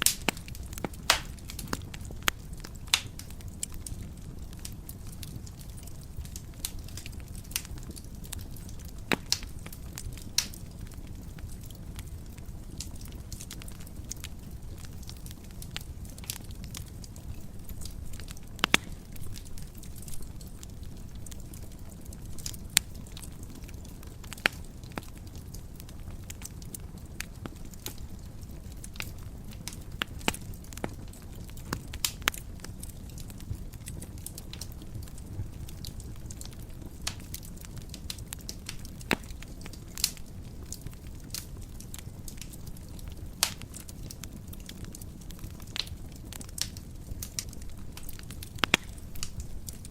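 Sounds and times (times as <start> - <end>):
fire crackling and popping: 0.0 - 49.9
fire rumbling: 0.0 - 49.9.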